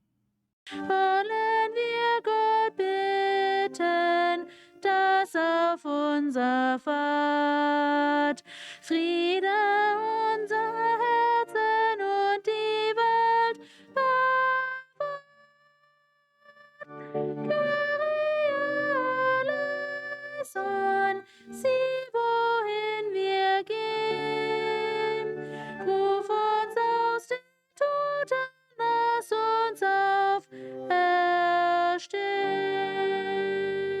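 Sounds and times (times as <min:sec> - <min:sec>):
slow hymn melody: 0:00.7 - 0:15.2, 0:16.6 - 0:34.0.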